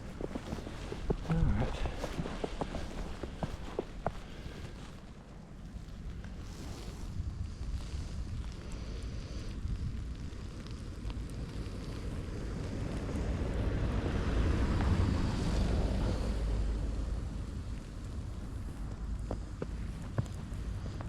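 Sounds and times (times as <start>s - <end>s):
vehicle passing on snowy road: 0.0s - 21.0s
wind buffeting microphone: 0.0s - 21.0s.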